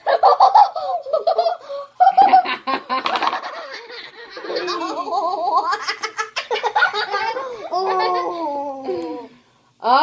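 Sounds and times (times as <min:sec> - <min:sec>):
children laughing and giggling: 0:00.0 - 0:09.4.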